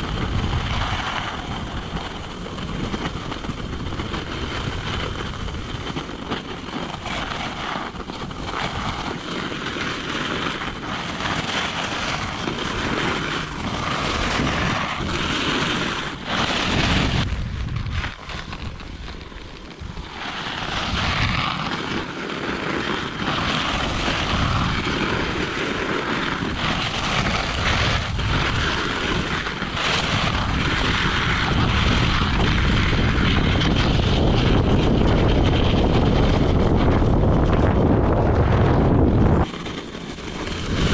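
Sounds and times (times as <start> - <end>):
snow skates scraping on snow: 0.0 - 40.9
wind rushing over microphone: 0.0 - 40.9.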